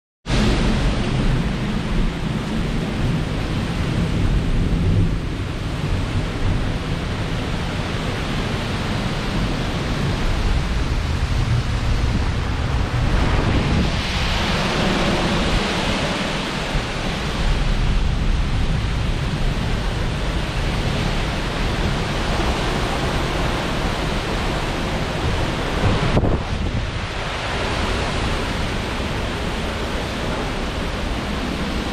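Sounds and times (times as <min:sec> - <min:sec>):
storm wind blowing hard: 0:00.2 - 0:31.9
wind buffeting microphone: 0:00.3 - 0:31.9.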